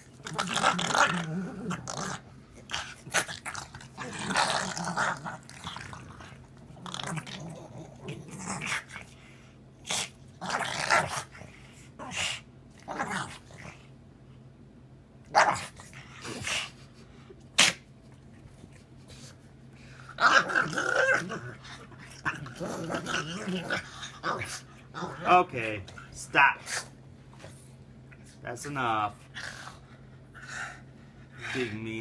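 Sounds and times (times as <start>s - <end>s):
dog play-growling and grunting: 0.0s - 13.9s, 15.2s - 27.6s, 29.2s - 31.7s.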